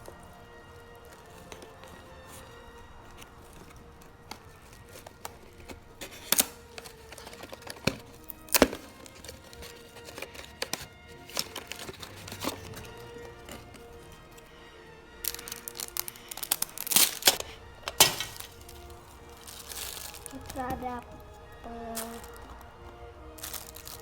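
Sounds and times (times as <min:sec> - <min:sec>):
plastic clicks and crinkles: 0:00.0 - 0:14.6, 0:15.2 - 0:24.0
background music: 0:00.0 - 0:24.0.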